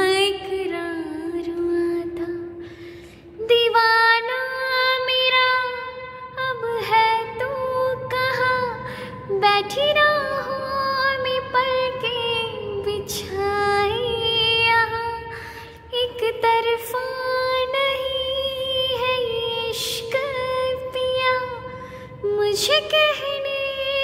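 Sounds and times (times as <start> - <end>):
woman singing slow melody: 0.0 - 24.0.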